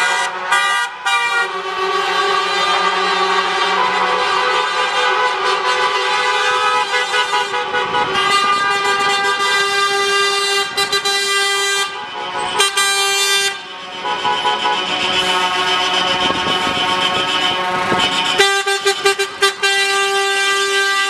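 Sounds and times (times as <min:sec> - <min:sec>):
vehicle horns honking: 0:00.0 - 0:21.0.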